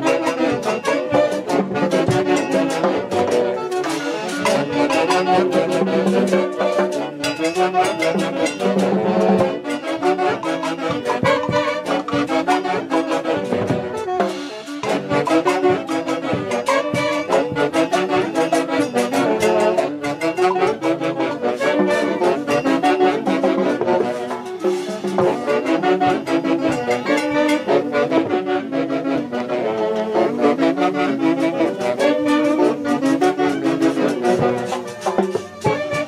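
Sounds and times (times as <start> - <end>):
brass band music: 0.0 - 36.0.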